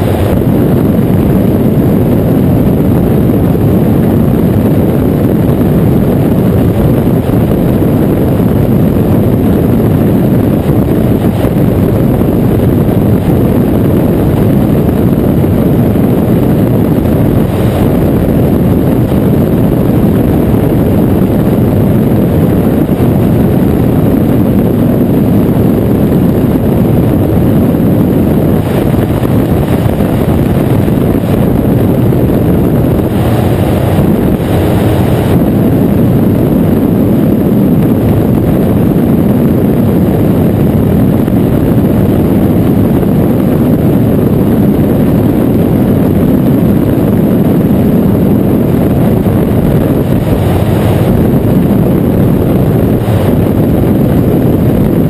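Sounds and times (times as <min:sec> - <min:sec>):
microlight engine drone: 0:00.0 - 0:55.0
wind rush over microphone: 0:00.0 - 0:55.0.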